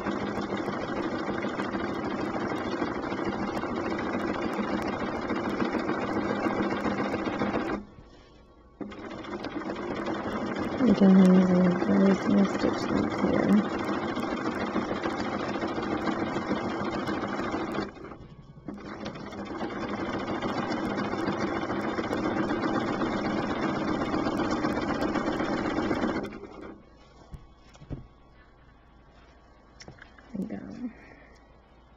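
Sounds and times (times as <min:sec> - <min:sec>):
sewing machine running: 0:00.0 - 0:07.9, 0:08.8 - 0:26.8.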